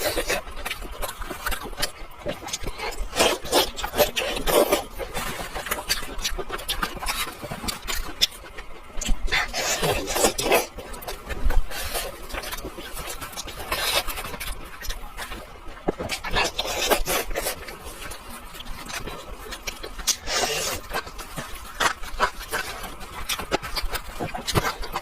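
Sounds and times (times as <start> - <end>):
chewing and smacking: 0.0 - 25.0
meat tearing by hand: 0.0 - 25.0.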